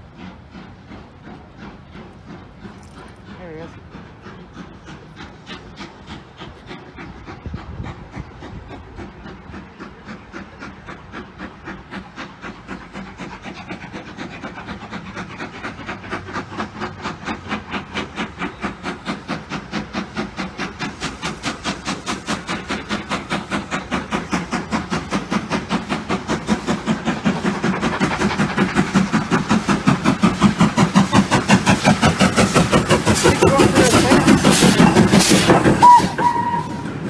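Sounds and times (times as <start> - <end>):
steam locomotive exhaust beats: 0.0 - 37.0.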